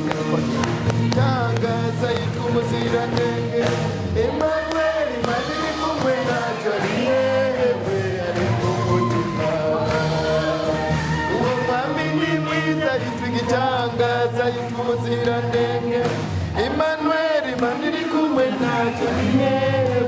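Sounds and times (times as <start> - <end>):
gospel chorus singing: 0.0 - 20.0
steady beat: 0.0 - 20.0
sustained bass notes: 0.0 - 20.0.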